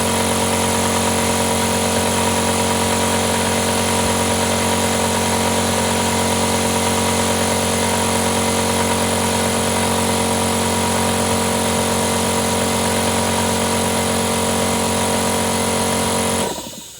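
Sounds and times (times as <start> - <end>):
compressor humming: 0.0 - 16.9.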